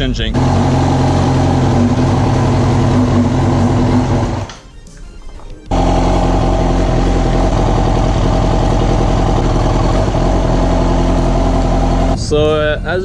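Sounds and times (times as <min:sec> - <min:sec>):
motorcycle engine idling: 0:00.4 - 0:04.5, 0:05.7 - 0:12.8.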